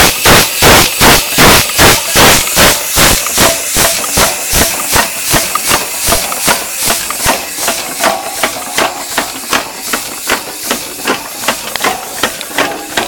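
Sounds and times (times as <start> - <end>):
air hissing: 0.0 - 13.0
steam engine exhaust chuffs: 0.0 - 13.0.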